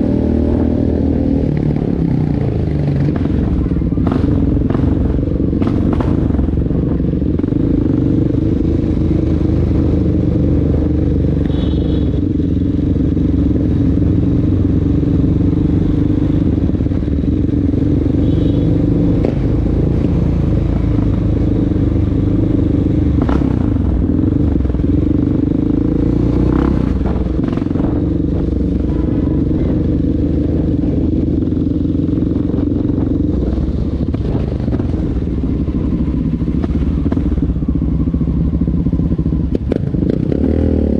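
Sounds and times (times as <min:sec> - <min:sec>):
motorcycle engine droning: 0:00.0 - 0:40.9.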